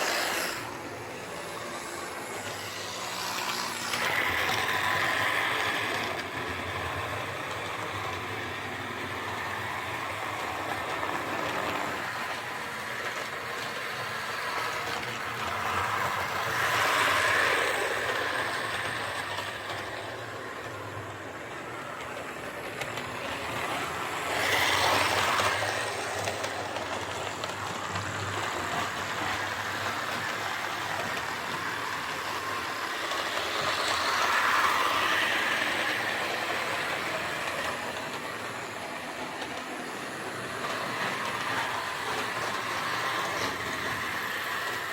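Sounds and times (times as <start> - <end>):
model train motor and wheels: 0.0 - 44.9.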